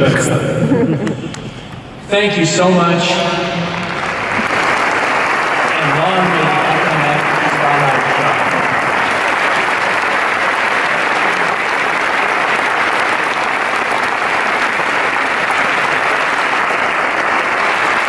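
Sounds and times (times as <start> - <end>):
audience applauding: 2.7 - 18.0.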